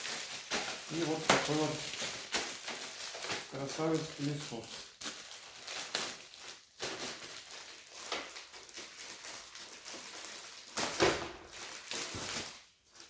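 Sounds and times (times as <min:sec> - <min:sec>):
plastic wrap rustling and crinkling: 0:00.0 - 0:13.0.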